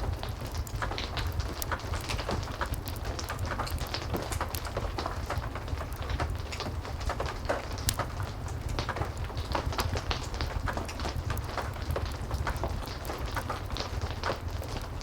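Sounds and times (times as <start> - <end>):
fireplace crackling: 0.0 - 15.0
heavy rain: 0.0 - 15.0.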